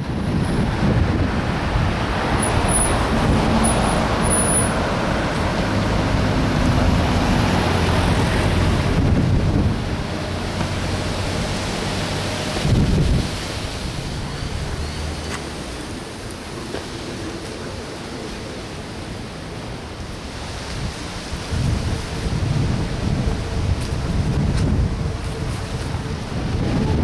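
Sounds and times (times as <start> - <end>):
gusty wind: 0.0 - 27.0
road traffic: 0.0 - 27.0.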